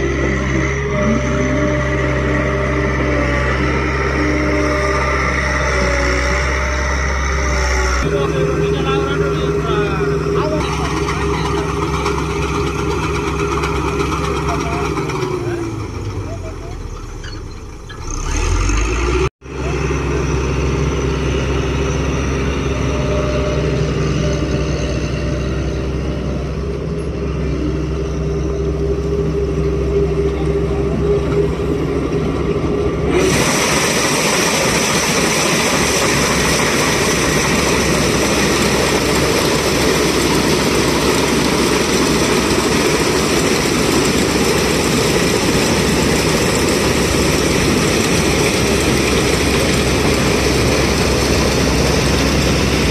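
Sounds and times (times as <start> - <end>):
combine harvester engine drone: 0.0 - 52.9.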